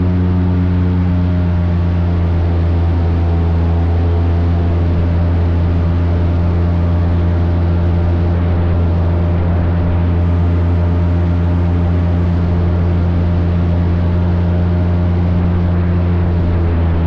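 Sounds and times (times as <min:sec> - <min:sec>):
airboat engine and propeller drone: 0:00.0 - 0:17.0.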